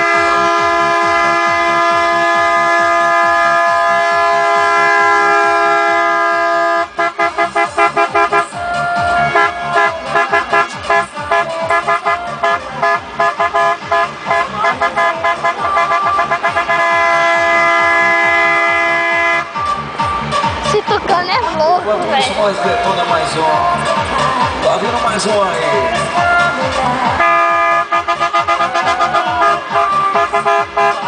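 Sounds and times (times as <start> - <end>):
truck air horns: 0.0 - 20.6, 24.6 - 31.0.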